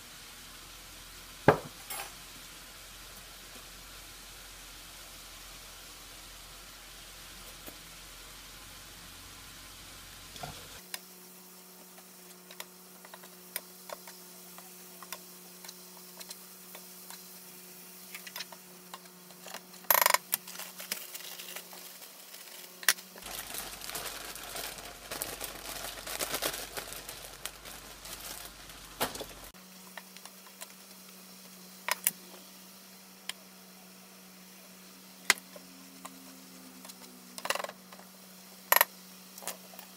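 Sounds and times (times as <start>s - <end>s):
vegetables sizzling in a frying pan: 0.0s - 39.9s.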